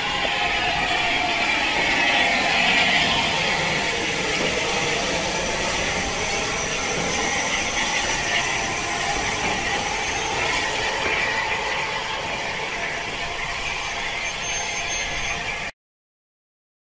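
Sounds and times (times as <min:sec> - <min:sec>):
steam locomotive hissing steam: 0:00.0 - 0:15.7.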